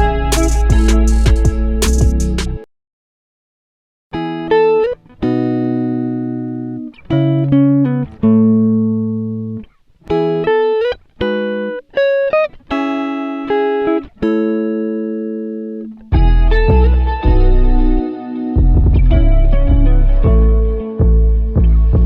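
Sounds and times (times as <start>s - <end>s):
plucked guitar chords: 0.0s - 2.7s, 4.1s - 22.0s.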